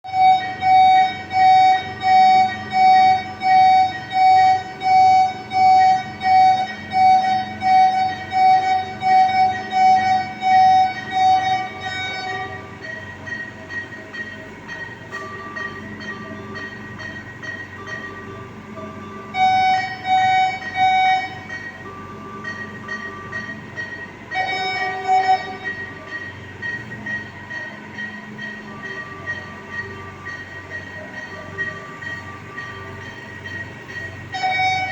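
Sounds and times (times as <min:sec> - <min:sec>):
medical alarm beeping: 0:00.0 - 0:34.9.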